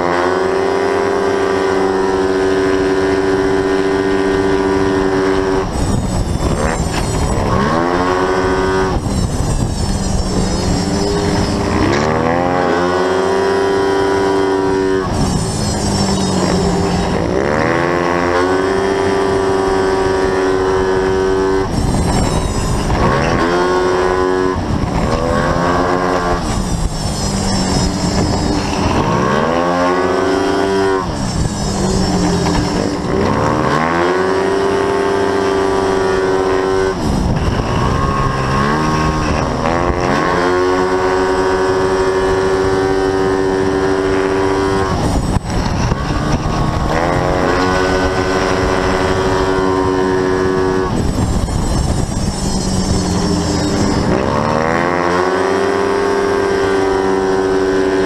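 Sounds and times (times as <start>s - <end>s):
rushing wind noise: 0.0s - 58.0s
scooter engine revving: 0.0s - 58.0s.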